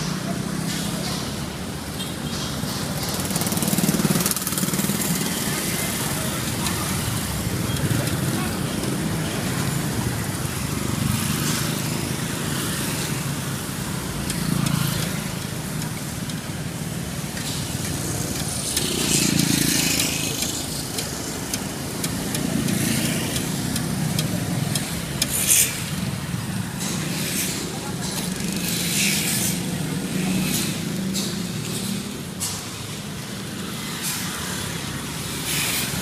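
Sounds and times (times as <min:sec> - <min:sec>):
hum of passing vehicles: 0:02.6 - 0:36.0.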